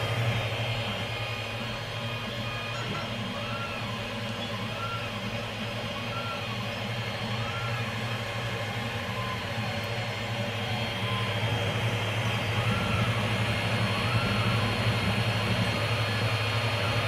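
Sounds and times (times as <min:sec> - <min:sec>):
steady low hum: 0:00.0 - 0:17.0
stepper motor whines: 0:00.0 - 0:17.0.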